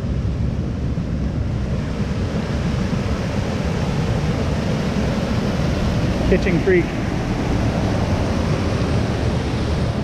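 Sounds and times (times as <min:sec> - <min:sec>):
creek water rushing: 0:01.5 - 0:10.0.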